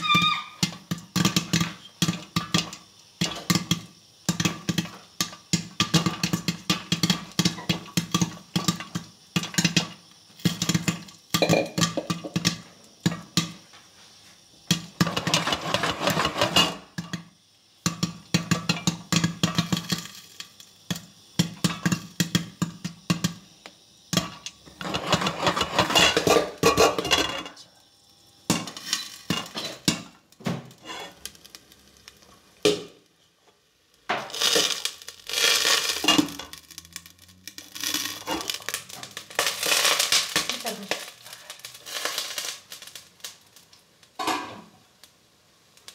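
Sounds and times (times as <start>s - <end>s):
popcorn popping in covered pot: 0.0s - 13.7s, 14.6s - 45.9s.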